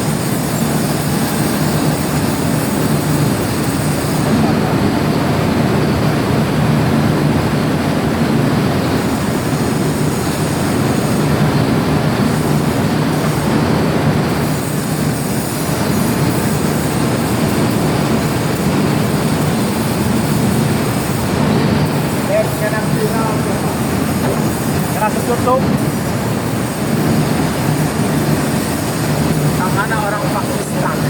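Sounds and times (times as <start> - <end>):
metal lathe running: 0.0 - 31.0.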